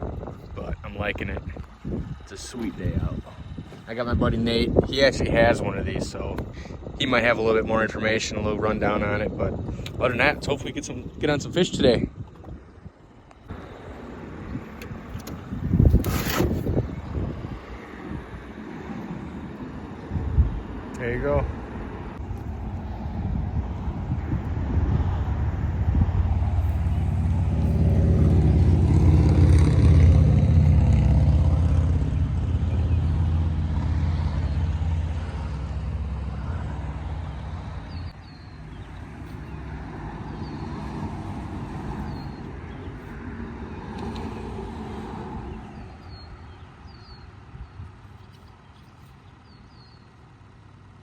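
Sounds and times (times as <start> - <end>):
engine droning: 0.0 - 51.0.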